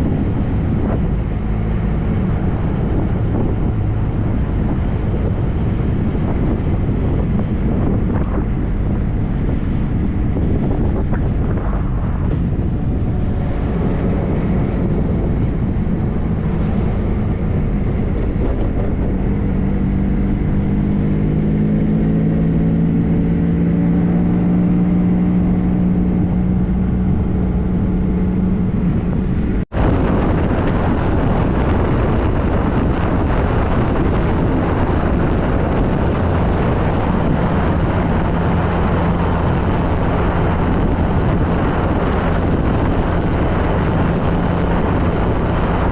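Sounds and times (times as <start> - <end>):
motorcycle engine running: 0.0 - 45.9
wind rush over microphone: 0.0 - 45.9.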